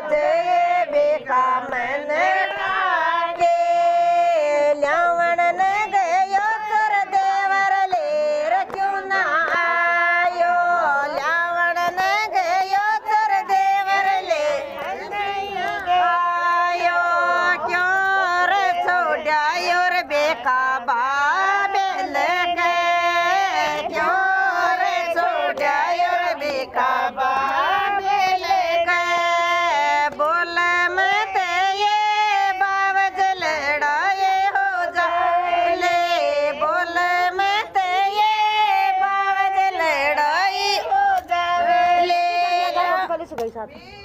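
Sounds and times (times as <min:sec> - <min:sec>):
woman singing folk song: 0:00.0 - 0:44.0.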